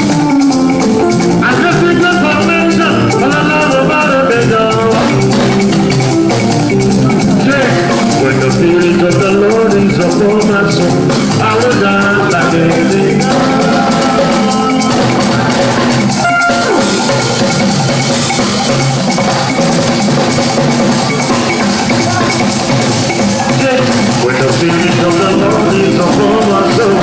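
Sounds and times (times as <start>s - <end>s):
live band playing upbeat music: 0.0s - 27.0s.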